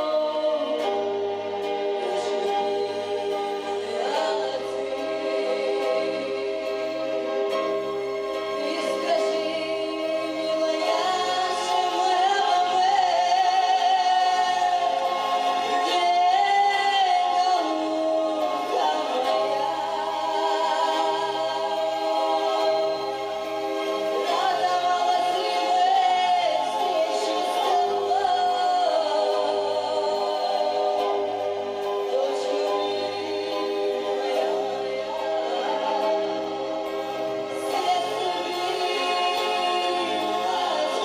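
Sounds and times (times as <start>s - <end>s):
women singing with vibrato: 0.0s - 41.0s.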